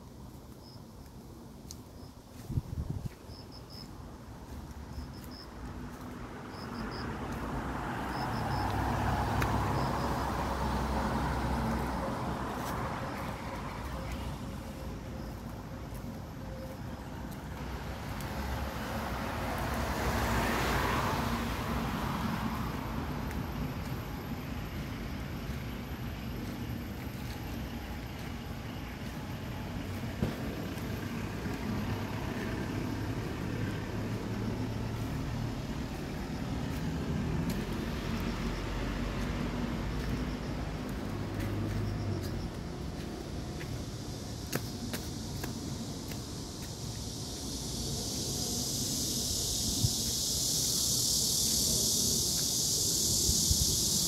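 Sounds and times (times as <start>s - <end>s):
traffic hum: 0.0s - 54.0s
vehicles passing: 0.0s - 54.0s.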